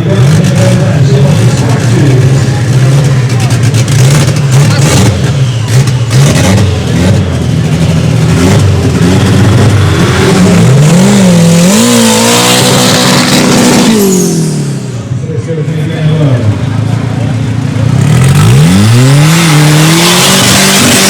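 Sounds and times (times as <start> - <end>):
drag racing car engine revving: 0.0 - 21.0.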